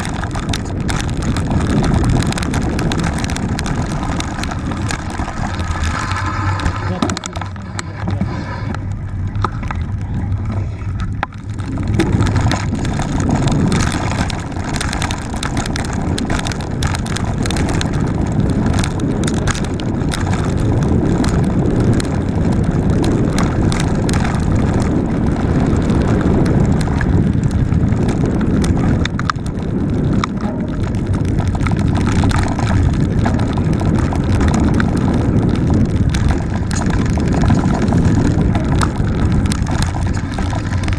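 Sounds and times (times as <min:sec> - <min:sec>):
bike knocks and rattles: 0:00.0 - 0:40.9
bike tyres rumbling on dirt: 0:00.0 - 0:40.9
wind on camera: 0:00.0 - 0:40.9.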